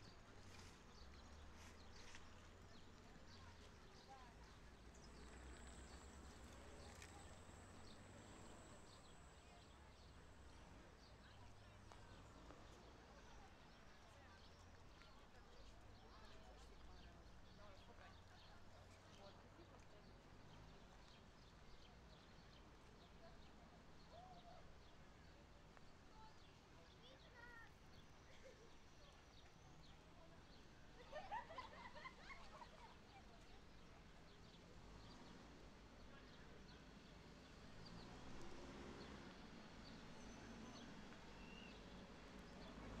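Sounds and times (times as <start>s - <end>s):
faint outdoor hum: 0.0s - 43.0s.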